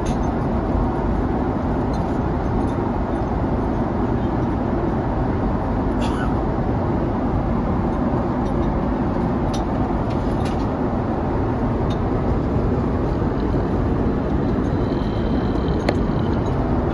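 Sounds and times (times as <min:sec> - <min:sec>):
airliner cabin engine rush: 0:00.0 - 0:16.9.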